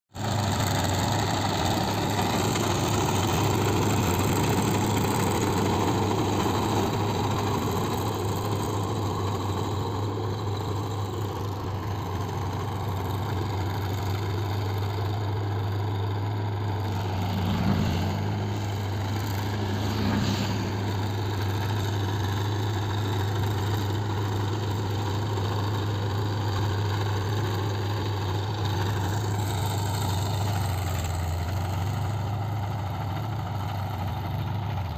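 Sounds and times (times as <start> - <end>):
tractor diesel engine under load: 0.1 - 34.9.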